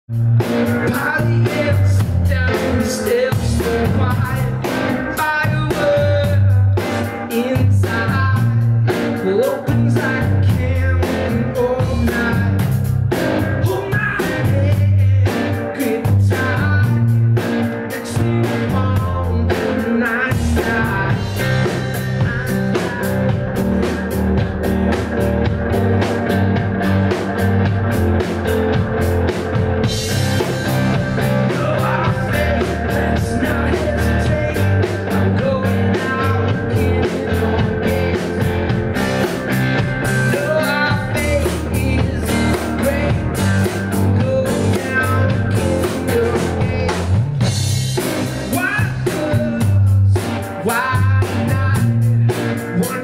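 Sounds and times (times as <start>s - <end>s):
drum kit steady beat: 0.1s - 53.0s
electric guitar: 0.1s - 53.0s
man singing: 0.4s - 23.6s, 29.8s - 39.3s, 40.0s - 47.4s, 48.0s - 53.0s.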